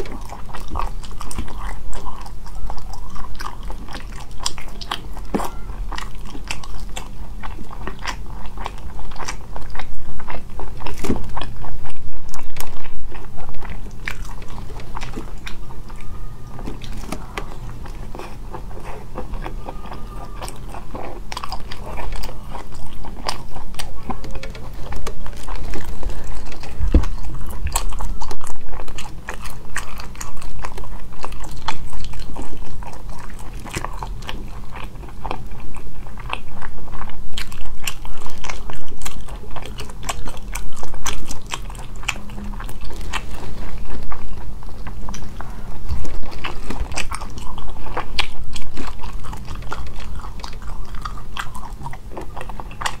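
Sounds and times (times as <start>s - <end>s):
chewing with wet clicks: 0.0s - 53.0s.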